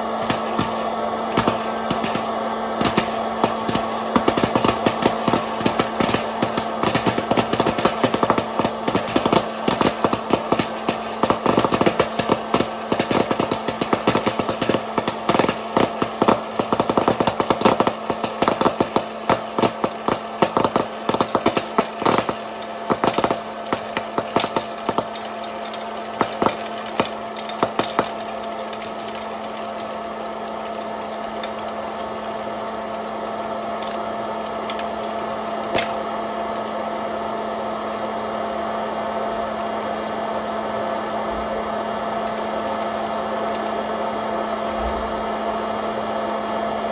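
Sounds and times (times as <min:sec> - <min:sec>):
popcorn kernels popping: 0:00.0 - 0:38.2, 0:41.8 - 0:45.9
popcorn machine motor hum: 0:00.0 - 0:46.9.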